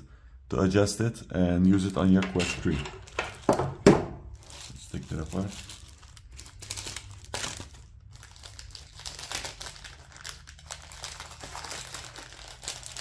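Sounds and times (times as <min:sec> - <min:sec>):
plastic packaging crinkling: 0:01.7 - 0:03.6, 0:04.3 - 0:13.0.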